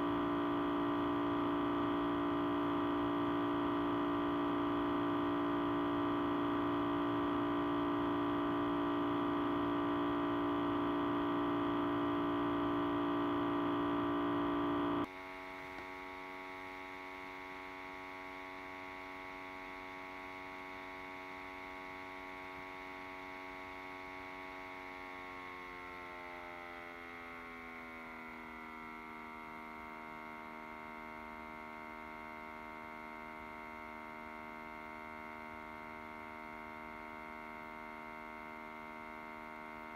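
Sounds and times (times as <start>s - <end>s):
audio feedback drone: 0.0s - 39.9s.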